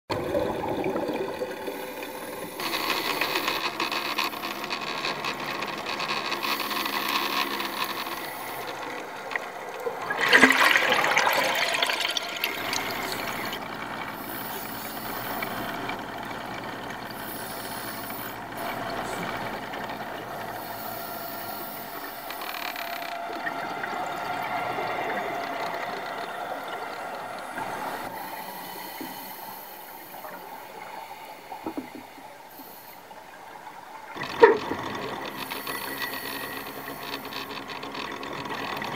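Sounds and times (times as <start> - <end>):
underwater exhaled air bubbling: 0.1 - 4.8, 5.4 - 38.9.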